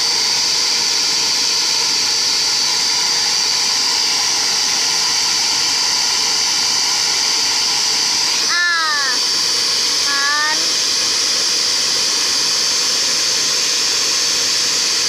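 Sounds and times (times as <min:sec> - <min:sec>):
electric air blower running: 0:00.0 - 0:15.0.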